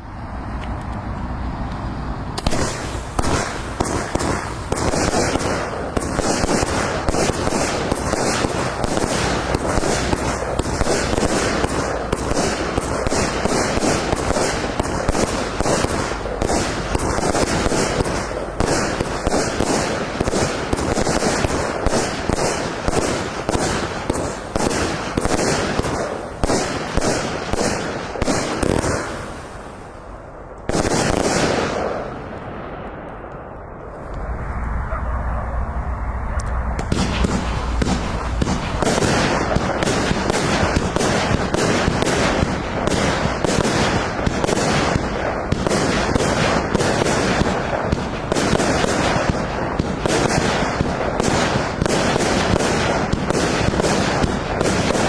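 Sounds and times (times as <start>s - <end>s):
firework cake crackling and popping: 2.4s - 35.5s, 36.3s - 55.0s.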